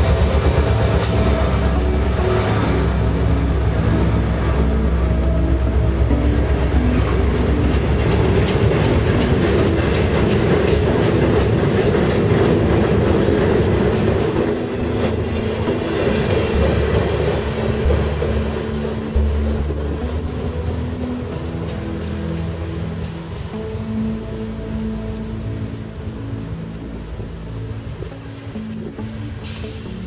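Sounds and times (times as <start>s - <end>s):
freight train rolling past: 0.0s - 30.0s.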